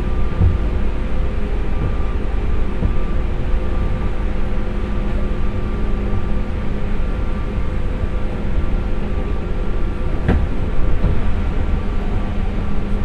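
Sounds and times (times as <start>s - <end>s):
steady motor tones: 0.0s - 13.0s
train wheels rumbling on rail: 0.0s - 13.0s.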